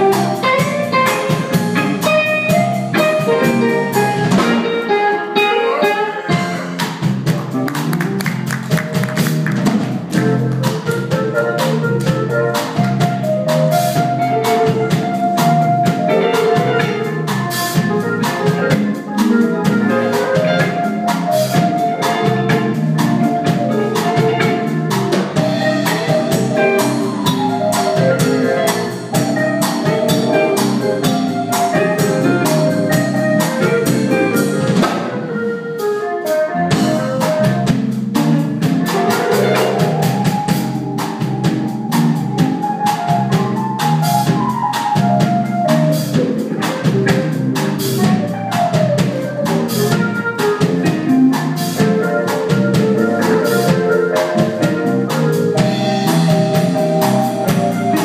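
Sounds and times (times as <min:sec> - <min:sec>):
drum kit beat: 0:00.0 - 0:58.0
live blues band: 0:00.0 - 0:58.0.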